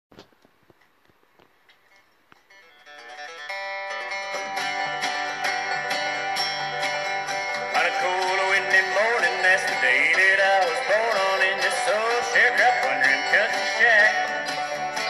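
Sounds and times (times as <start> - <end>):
acoustic guitar picking and strumming: 2.3 - 15.0.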